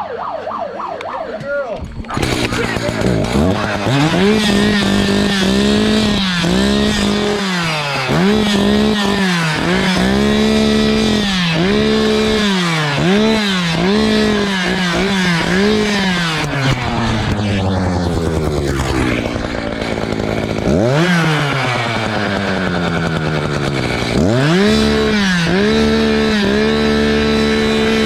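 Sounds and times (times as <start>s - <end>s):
chainsaw engine revving: 1.9s - 28.0s.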